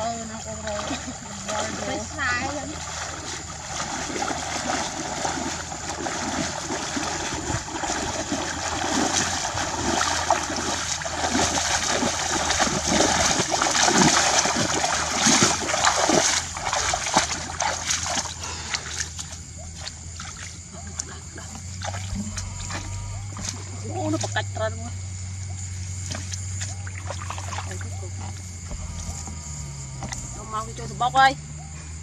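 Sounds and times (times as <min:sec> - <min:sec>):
water splashing and sloshing: 0:00.0 - 0:31.5.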